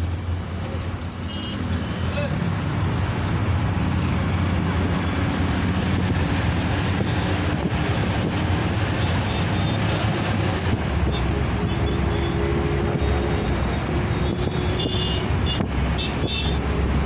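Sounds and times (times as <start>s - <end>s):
bus engine rumble: 0.0s - 17.0s
road noise: 0.0s - 17.0s.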